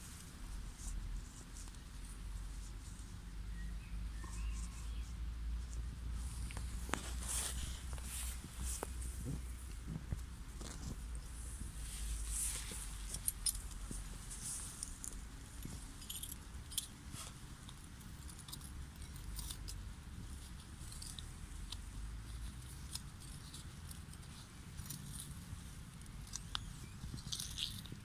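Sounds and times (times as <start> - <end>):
small clicks and scrapes: 0.0 - 3.2, 4.2 - 28.0
hand rustling soil and grass: 0.0 - 28.0.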